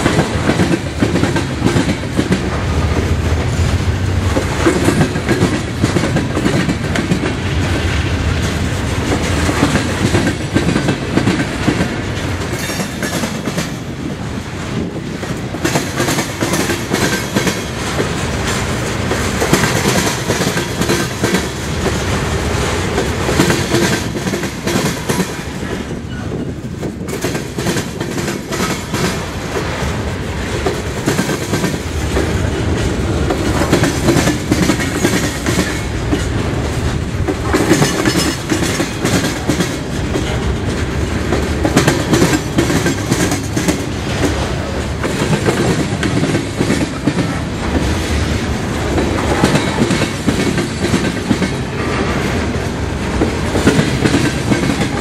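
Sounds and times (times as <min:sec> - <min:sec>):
train wheels clacking on rails: 0:00.0 - 0:55.0.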